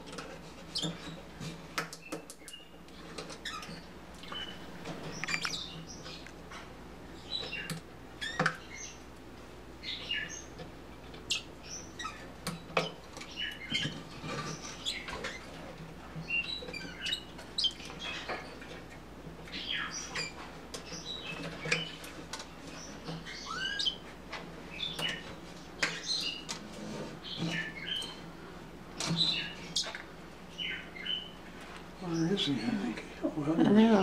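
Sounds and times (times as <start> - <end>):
parakeets chirping: 0.6 - 1.2, 2.0 - 6.3, 7.1 - 9.1, 9.8 - 10.6, 11.2 - 34.0.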